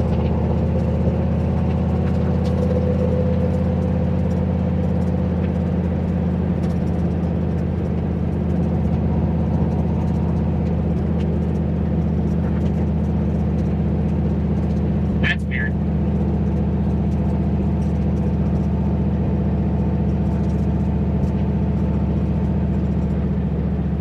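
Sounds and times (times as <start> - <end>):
car engine exhaust drone: 0.0 - 24.0.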